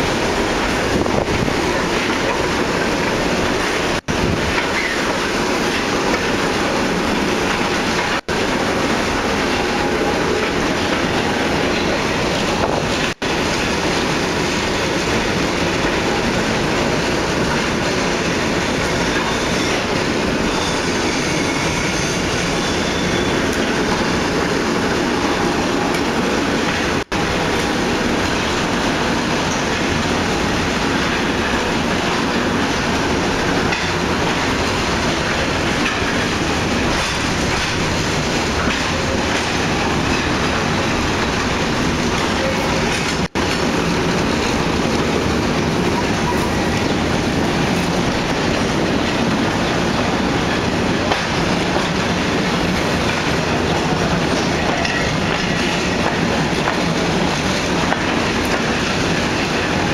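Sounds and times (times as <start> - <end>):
train car moving along track: 0.0 - 59.9.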